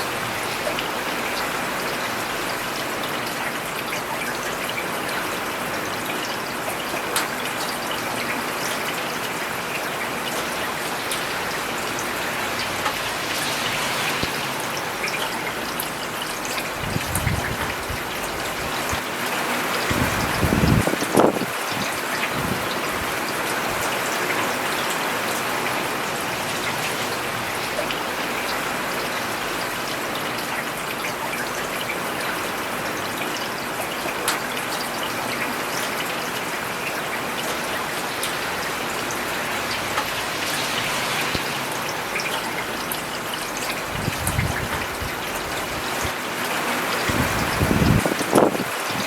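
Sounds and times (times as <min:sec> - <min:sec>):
rain falling on a road: 0:00.0 - 0:49.0.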